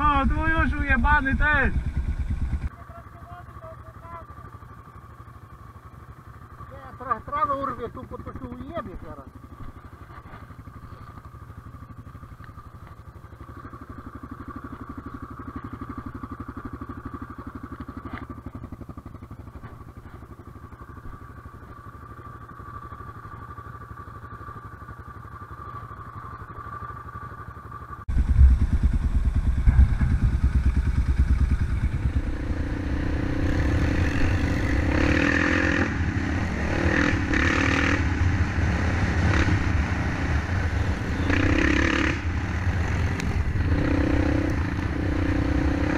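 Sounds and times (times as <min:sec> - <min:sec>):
quad engine under throttle: 0:00.0 - 0:45.9
quad engine idling: 0:01.5 - 0:45.9.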